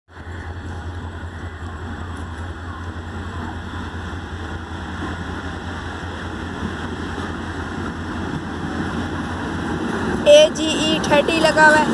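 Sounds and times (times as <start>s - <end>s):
diesel locomotive engine drone: 0.1s - 11.9s.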